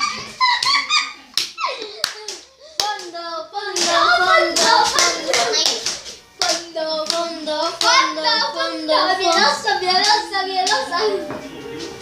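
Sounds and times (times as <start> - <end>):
children clapping: 0.5 - 8.4, 9.0 - 10.9.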